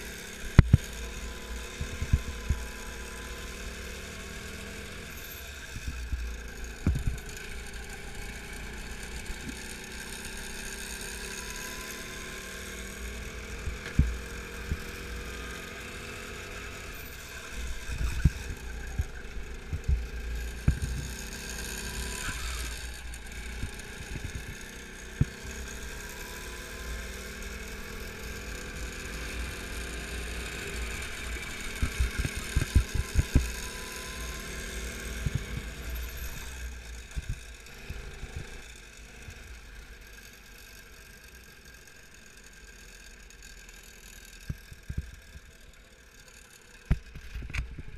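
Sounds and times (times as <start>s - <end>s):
go-kart engine running: 0.0s - 47.9s.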